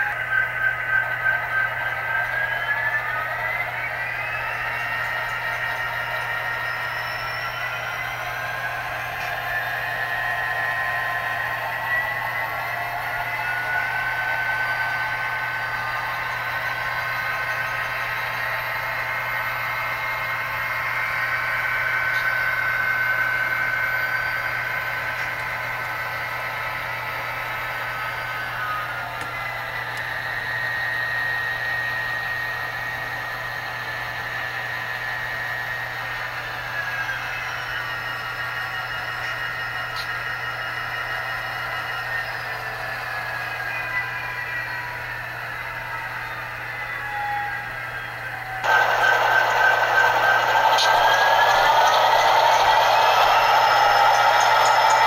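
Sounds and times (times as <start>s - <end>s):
diesel engine sound from speakers: 0.0s - 55.0s
model train cars rolling on track: 0.0s - 55.0s.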